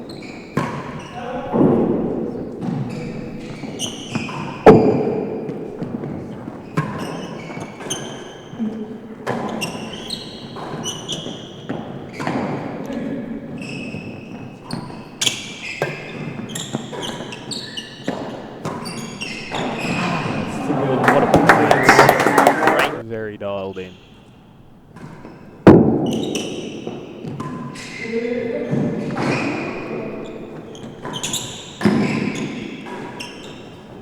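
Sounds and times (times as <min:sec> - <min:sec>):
ball strikes echoing in hall: 0:00.0 - 0:34.0
shoes squeaking on court floor: 0:00.0 - 0:34.0.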